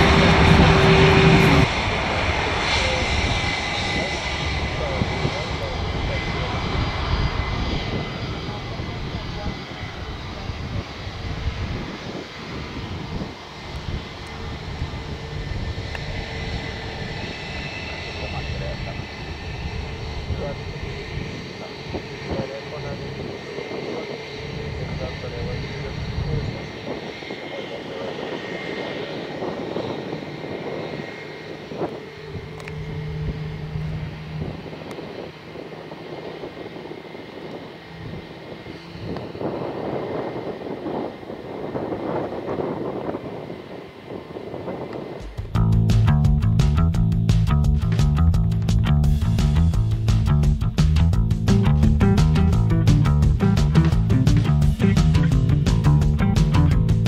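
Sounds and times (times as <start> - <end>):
faint jet engine whine: 0.0 - 45.9, 48.3 - 57.0
jet engines rumbling: 0.0 - 57.0.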